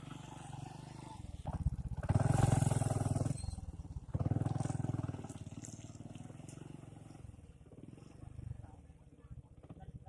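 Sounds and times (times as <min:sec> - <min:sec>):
motorcycle engine: 0:00.0 - 0:09.0.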